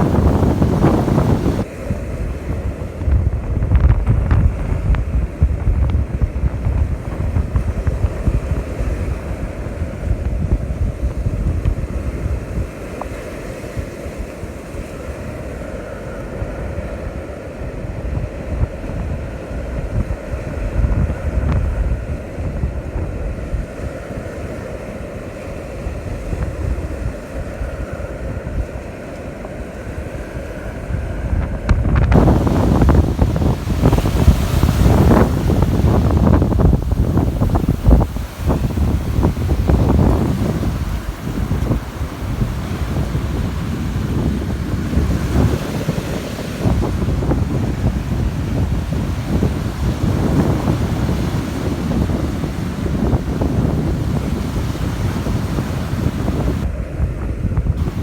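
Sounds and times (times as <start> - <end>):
surf on beach: 0.0 - 58.0
wind buffeting microphone: 0.0 - 58.0.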